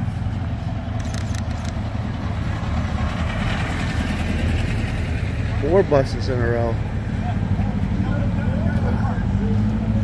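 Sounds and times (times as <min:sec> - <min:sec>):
engine rumble driving past: 0:00.0 - 0:10.0.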